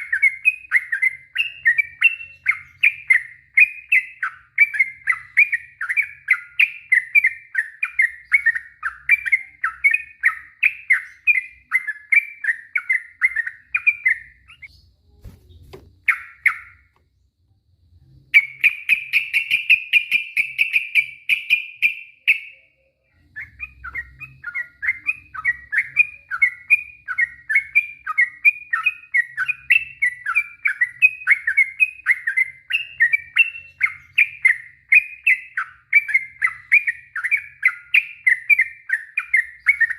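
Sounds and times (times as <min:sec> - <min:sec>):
bird singing chattering notes: 0:00.0 - 0:17.0, 0:18.4 - 0:39.9.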